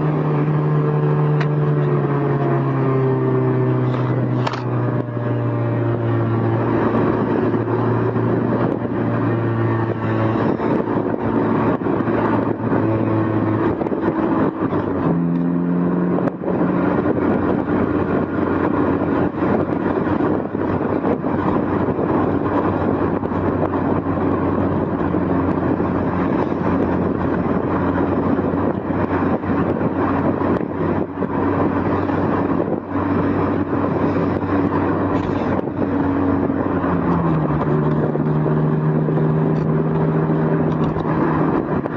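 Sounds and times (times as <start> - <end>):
road noise: 0.0 - 41.9
sports car engine revving: 0.0 - 41.9
wind noise: 0.0 - 41.9.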